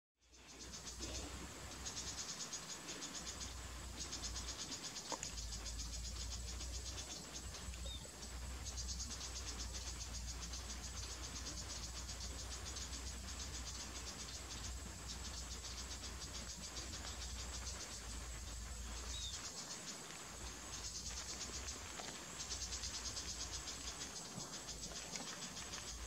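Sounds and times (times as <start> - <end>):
insects trilling: 0.2 - 26.0.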